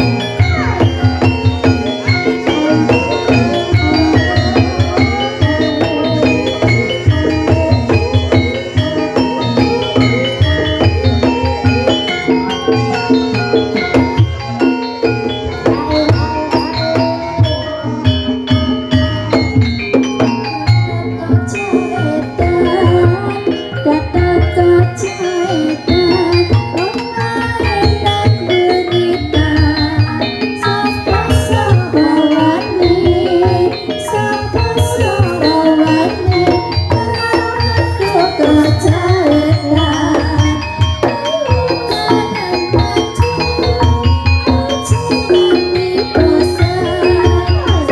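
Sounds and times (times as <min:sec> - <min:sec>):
gamelan mallet instruments: 0:00.0 - 0:47.9
person singing: 0:00.0 - 0:47.9
ringing metallophone notes: 0:00.0 - 0:47.9.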